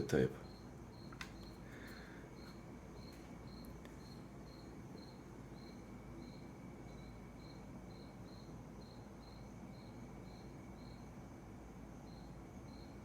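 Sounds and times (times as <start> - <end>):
cricket chirping: 0.0 - 13.0
low steady hum: 0.0 - 13.0.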